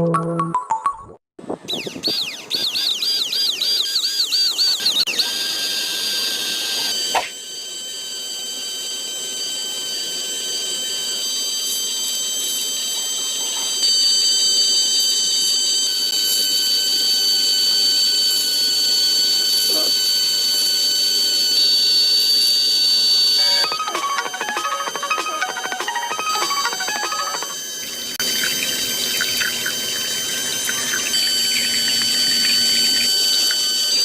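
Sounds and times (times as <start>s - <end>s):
high-pitched whine: 1.5s - 34.0s
warbling siren tone: 1.6s - 34.0s.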